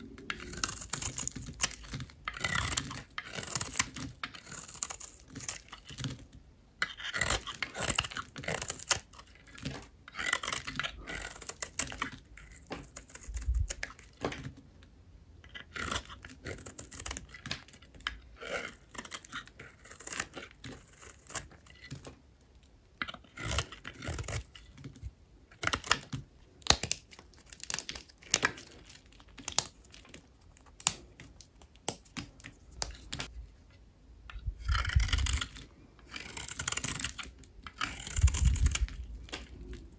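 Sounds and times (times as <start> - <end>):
blade cutting dry soap crunching: 0.0 - 14.8, 15.4 - 33.5, 34.2 - 39.9.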